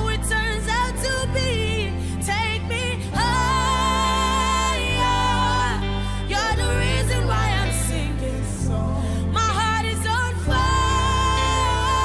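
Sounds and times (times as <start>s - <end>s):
steady bass line: 0.0s - 12.0s.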